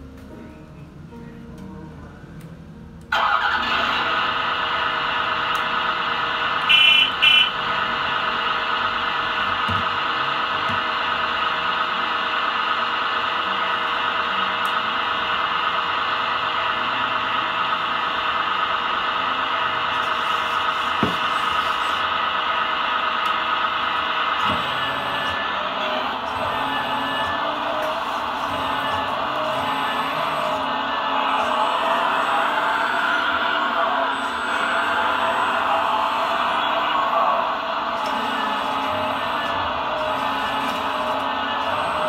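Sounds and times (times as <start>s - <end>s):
simulated diesel engine on speaker: 0.0s - 42.0s.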